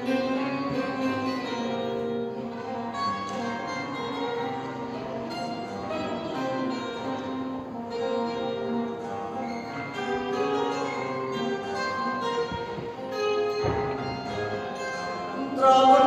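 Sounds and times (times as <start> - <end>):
plucked string music with guitar: 0.0 - 16.0.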